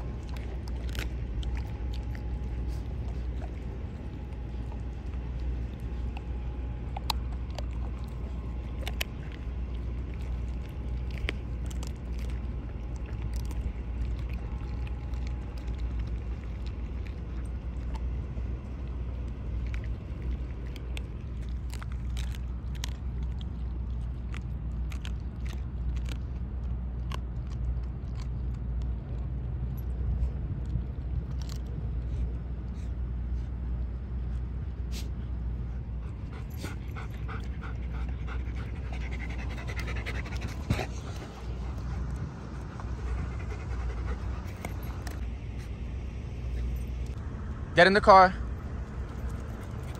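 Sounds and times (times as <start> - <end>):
dog crunching bones: 0.0 - 32.4, 35.8 - 45.3, 48.7 - 49.9
low rumble: 0.0 - 49.9.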